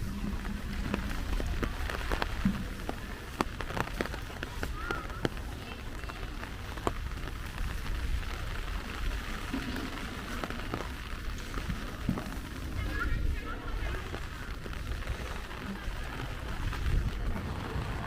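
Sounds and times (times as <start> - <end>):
rain falling: 0.0 - 18.0
raindrops ticking: 0.0 - 18.0
steady low rumble: 0.0 - 18.0.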